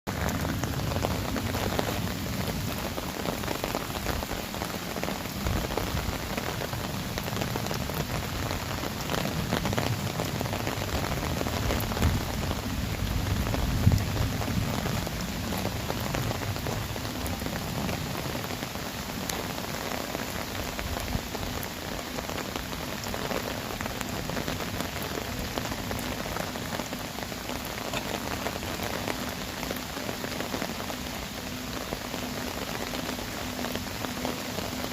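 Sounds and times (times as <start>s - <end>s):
heavy rain on clay jars: 0.1s - 34.9s.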